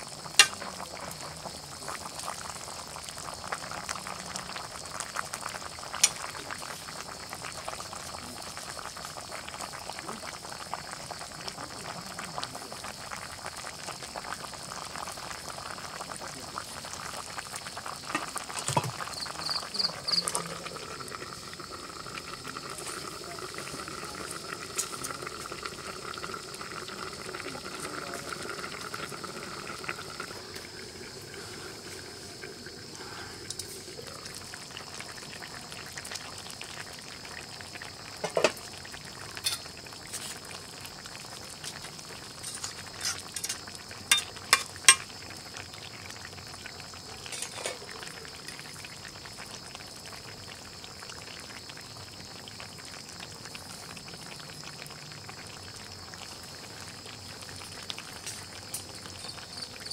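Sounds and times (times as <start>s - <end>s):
curry bubbling with a hiss: 0.0s - 59.9s.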